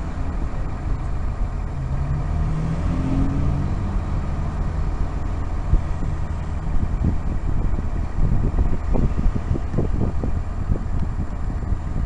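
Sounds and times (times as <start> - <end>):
diesel bus engine idling: 0.0 - 2.4, 3.6 - 12.0.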